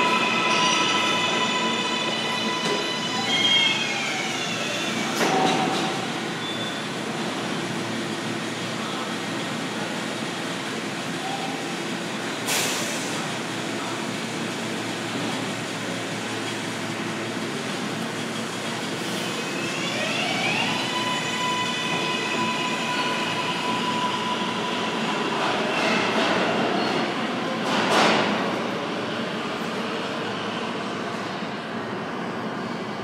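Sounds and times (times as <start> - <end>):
subway train rumble: 0.0 - 33.0.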